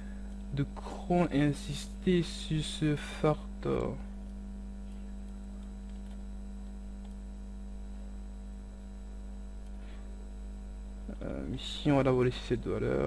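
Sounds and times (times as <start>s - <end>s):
electrical hum with low buzz: 0.0s - 13.0s.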